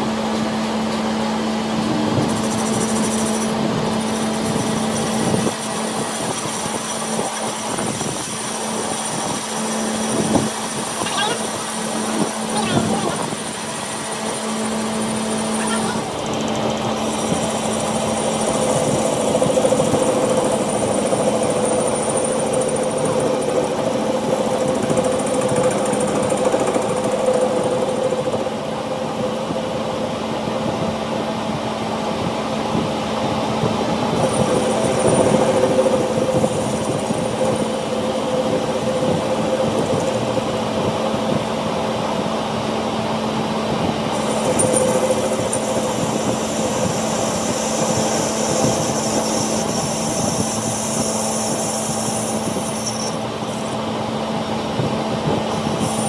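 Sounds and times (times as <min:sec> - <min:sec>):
workshop machinery drone: 0:00.0 - 0:56.0
thin high whine: 0:01.7 - 0:31.6, 0:32.2 - 0:42.6, 0:44.0 - 0:54.1.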